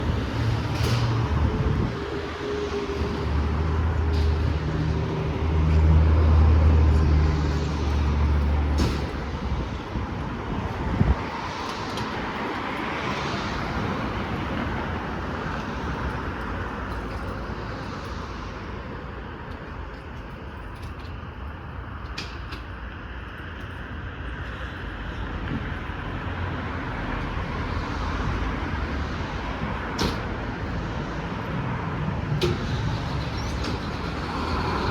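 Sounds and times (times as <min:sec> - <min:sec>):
diesel engine running low: 0:00.0 - 0:34.9
street traffic hum: 0:00.0 - 0:34.9.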